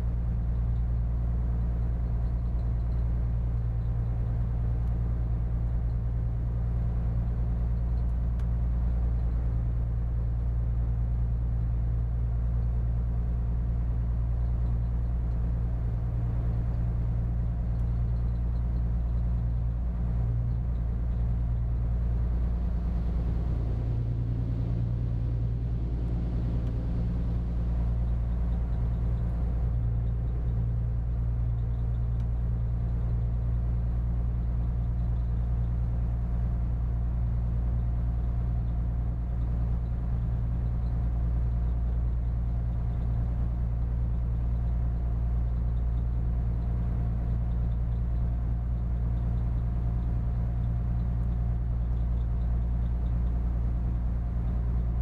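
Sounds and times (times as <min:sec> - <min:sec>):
diesel boat engine drone: 0:00.0 - 0:55.0.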